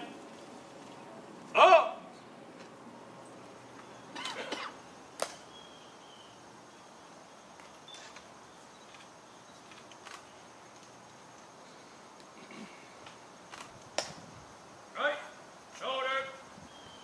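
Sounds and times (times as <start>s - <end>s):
quiet crowd ambience: 0.0s - 16.4s.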